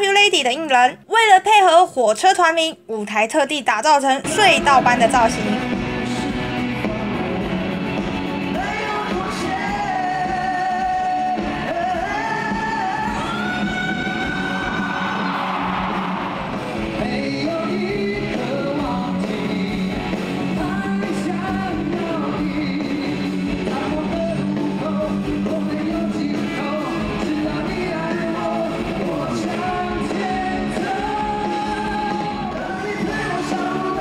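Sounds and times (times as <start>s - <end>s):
electric guitar: 4.2s - 34.0s
rock band playing: 4.2s - 34.0s
man singing: 4.3s - 15.1s, 16.9s - 34.0s.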